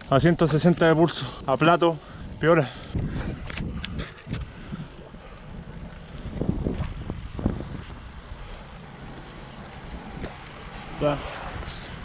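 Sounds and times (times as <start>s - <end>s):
road bike noise: 0.0s - 12.0s
wind rumbling on microphone: 0.0s - 12.0s.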